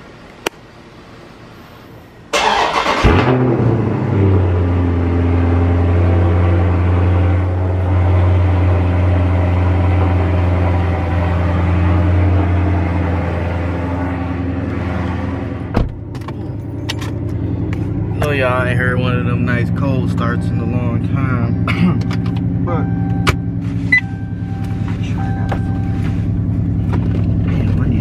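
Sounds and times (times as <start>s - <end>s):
car engine starting and idling: 0.0s - 28.0s.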